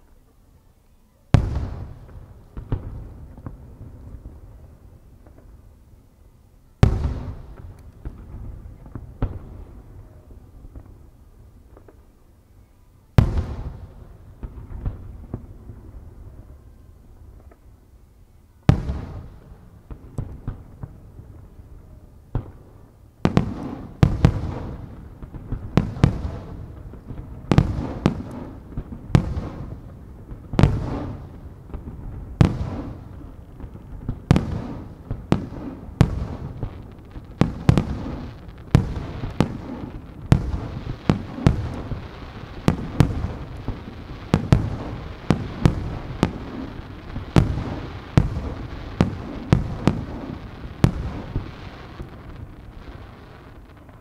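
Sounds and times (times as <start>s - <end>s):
firework hiss and crackle: 0.0s - 54.0s.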